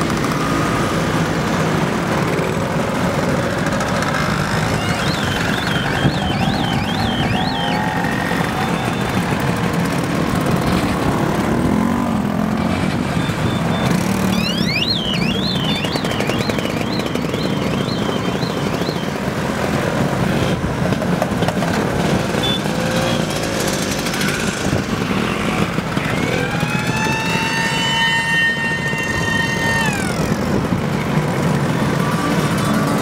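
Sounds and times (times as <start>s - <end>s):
scooter engines passing: 0.0s - 33.0s.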